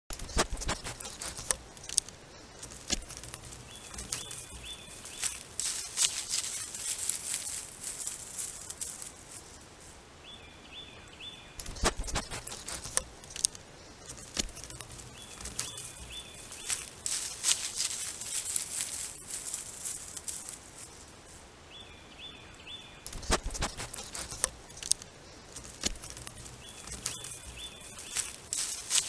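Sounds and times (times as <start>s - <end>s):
clicks and crackles: 0.1s - 9.4s, 11.6s - 21.0s, 23.0s - 29.0s
steady hiss: 0.1s - 29.0s.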